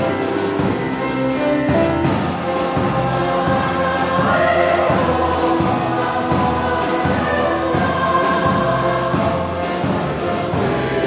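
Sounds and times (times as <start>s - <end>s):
choir singing held chords: 0.0s - 11.0s
orchestral accompaniment: 0.0s - 11.0s.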